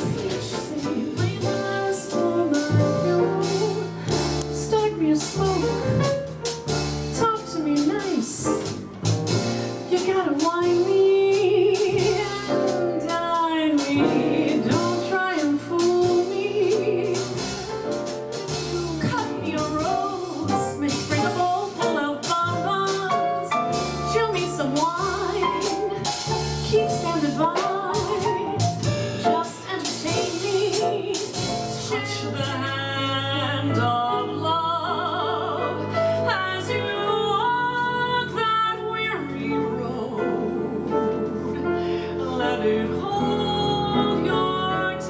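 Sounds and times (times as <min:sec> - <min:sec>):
jazz combo playing: 0:00.0 - 0:45.0.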